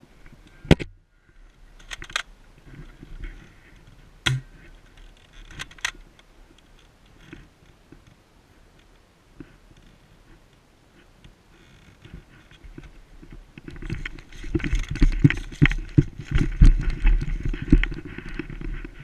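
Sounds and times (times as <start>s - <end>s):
light rustling: 0.2s - 19.0s.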